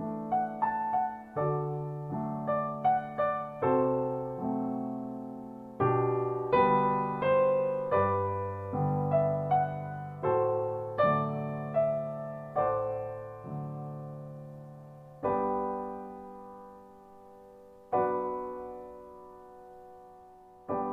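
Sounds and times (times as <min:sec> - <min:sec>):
slow piano chords: 0:00.0 - 0:20.9.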